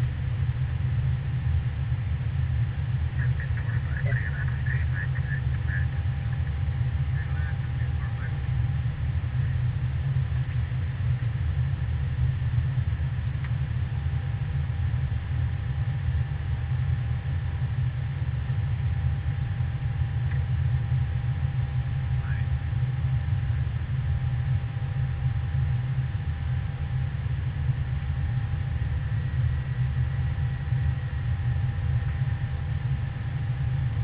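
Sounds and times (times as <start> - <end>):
faint steady hum: 0.0 - 34.0
jet engine rumble: 0.0 - 34.0.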